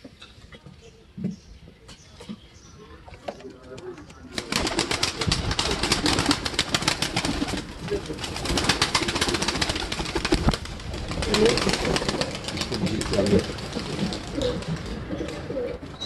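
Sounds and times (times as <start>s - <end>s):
pigeons cooing: 2.4s - 16.0s.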